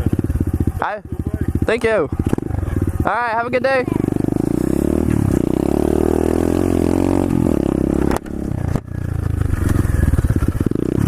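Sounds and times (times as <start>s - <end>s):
motorbike engine revving: 0.0s - 11.0s.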